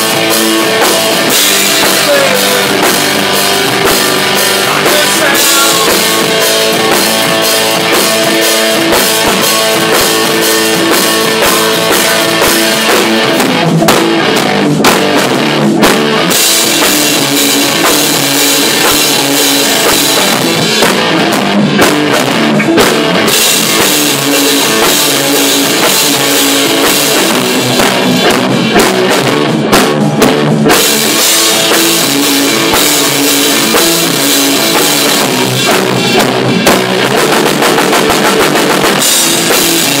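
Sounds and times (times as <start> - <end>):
amplified electric guitars: 0.0 - 40.0
drum kit with cymbals: 0.0 - 40.0.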